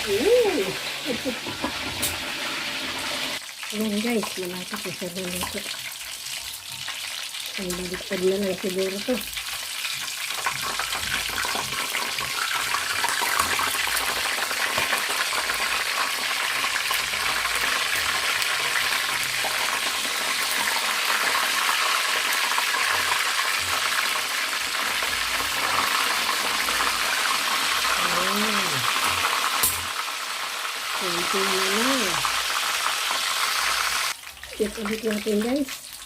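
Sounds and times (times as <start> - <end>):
chicken frying in oil: 0.0 - 36.0.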